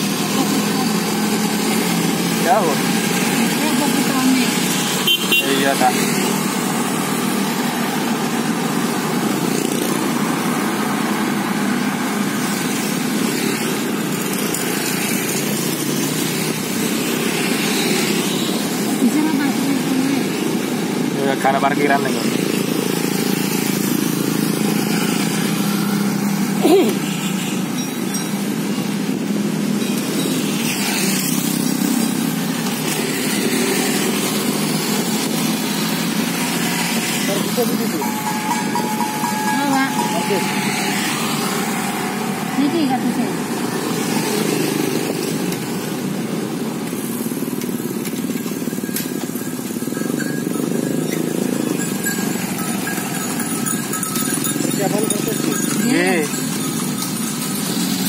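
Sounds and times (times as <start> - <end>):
road noise: 0.0 - 58.0
small motorcycle engines: 0.0 - 58.0.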